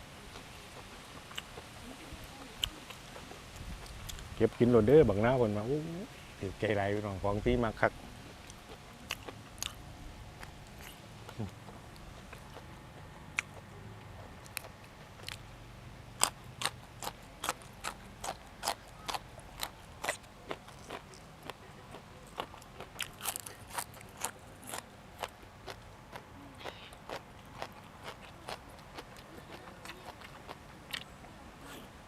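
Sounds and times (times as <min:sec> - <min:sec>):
person chewing crunchy vegetables: 0:00.3 - 0:01.7, 0:02.6 - 0:04.3, 0:08.4 - 0:15.4, 0:16.2 - 0:31.9.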